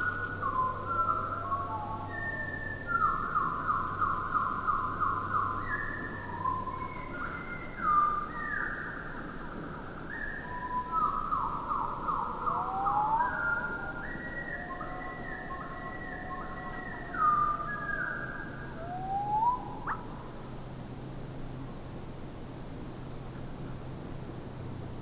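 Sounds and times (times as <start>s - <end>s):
slowed songbird song: 0.0s - 25.0s.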